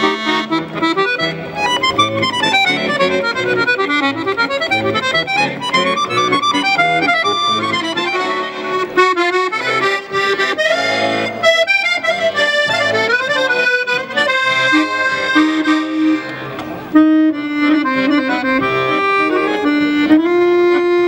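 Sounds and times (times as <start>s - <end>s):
accordion playing quick melody: 0.0s - 21.0s.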